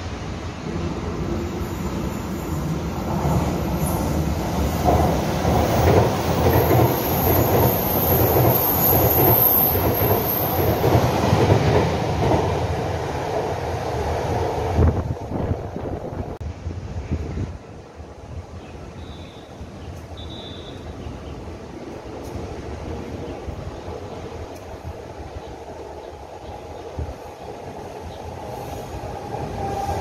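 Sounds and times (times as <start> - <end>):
train wheels rumbling on rails: 0.0 - 18.6, 19.6 - 30.0.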